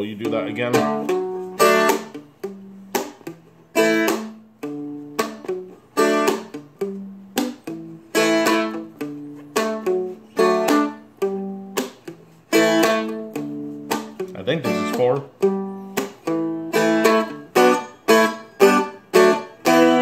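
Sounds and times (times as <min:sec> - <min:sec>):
small string instrument strummed: 0:00.1 - 0:20.0.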